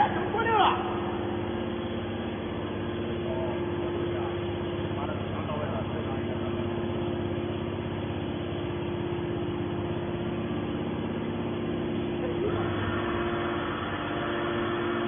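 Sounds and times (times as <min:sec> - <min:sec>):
hydraulic baler motor humming: 0:00.0 - 0:15.0.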